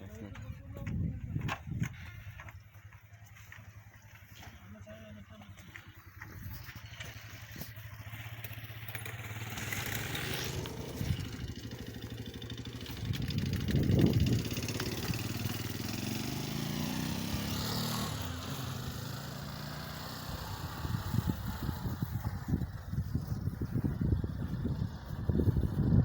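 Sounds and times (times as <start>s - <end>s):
motorcycle passing by: 3.8s - 26.0s.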